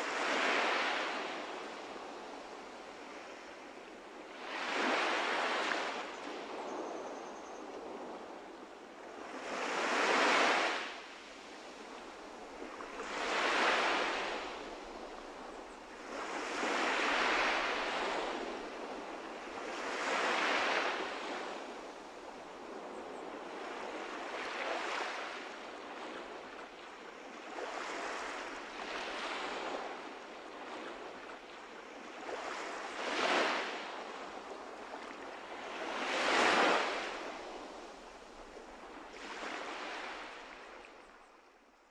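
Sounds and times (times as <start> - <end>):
ocean surf breaking on beach: 0.0 - 6.2, 9.3 - 40.7.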